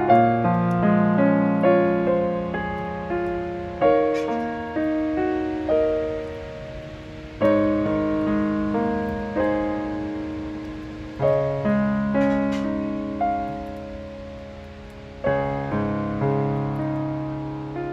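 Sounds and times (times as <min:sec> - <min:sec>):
gentle solo piano: 0:00.0 - 0:17.9.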